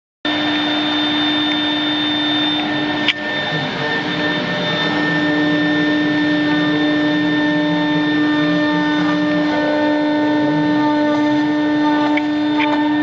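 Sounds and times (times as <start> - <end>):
cnc router spindle whine: 0.3 - 13.0
low hum: 0.3 - 13.0.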